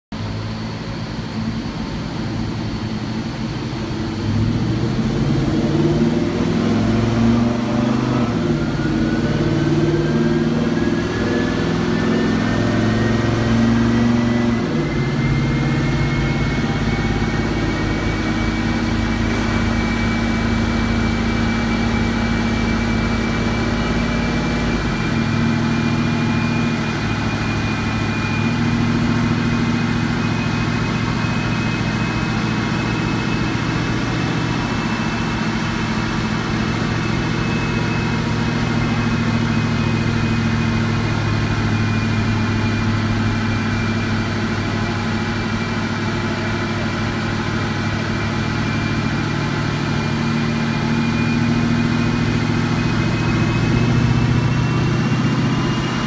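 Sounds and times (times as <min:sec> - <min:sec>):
car engine running under load: 0:00.1 - 0:56.0
thin whine: 0:00.2 - 0:56.0.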